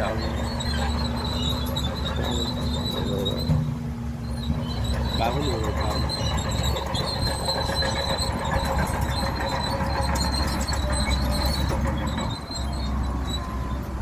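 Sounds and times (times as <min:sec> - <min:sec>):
bulldozer engine rumbling: 0:00.0 - 0:14.0
high metallic squeal of tracks: 0:00.0 - 0:14.0.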